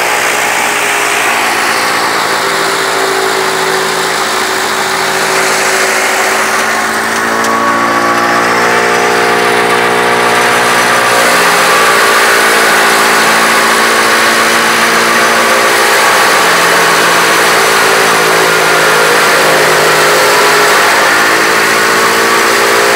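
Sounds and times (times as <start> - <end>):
tractor engine drone: 0.0 - 22.9.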